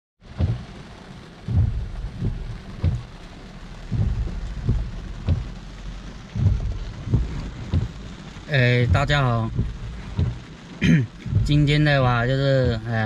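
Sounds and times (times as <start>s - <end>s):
heavy raindrops thudding: 0.2s - 13.0s
rain hissing: 0.2s - 13.0s.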